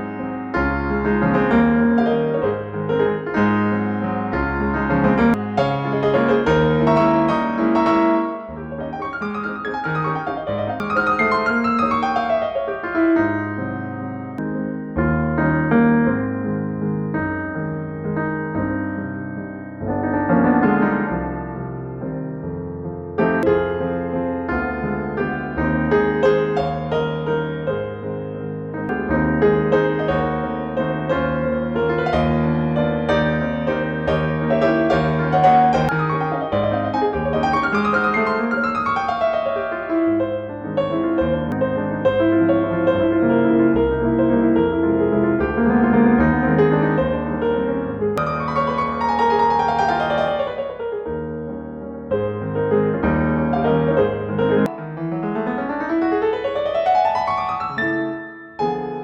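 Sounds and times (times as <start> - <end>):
gentle piano music: 0.0 - 59.0.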